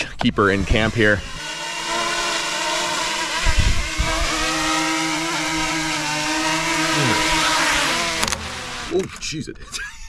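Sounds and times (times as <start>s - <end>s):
drone rotors whining: 0.0s - 9.2s.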